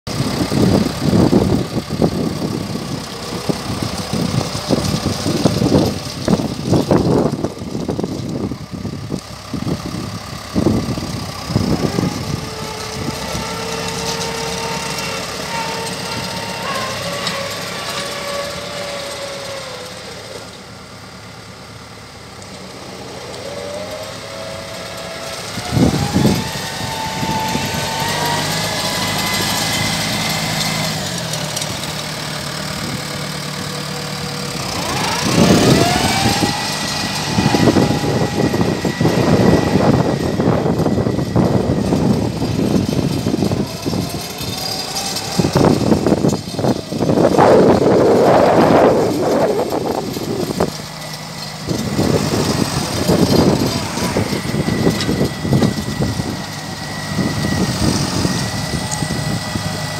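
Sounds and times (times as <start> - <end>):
tractor diesel engine running: 0.0 - 59.9
loud rushes of noise: 0.1 - 59.9.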